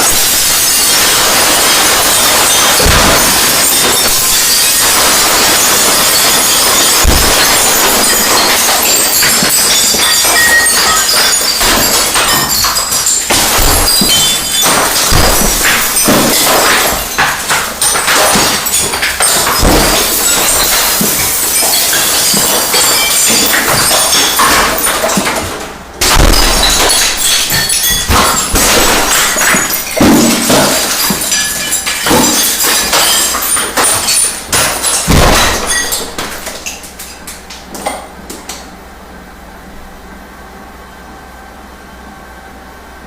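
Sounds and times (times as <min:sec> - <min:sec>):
glass bottles clattering: 0:00.0 - 0:38.1.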